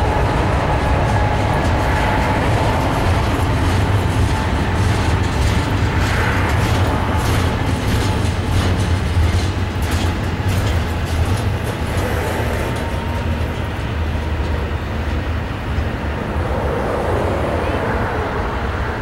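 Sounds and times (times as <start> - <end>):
freight train wheels rumbling on rail: 0.0 - 19.0
train clicks and clanks: 0.0 - 19.0.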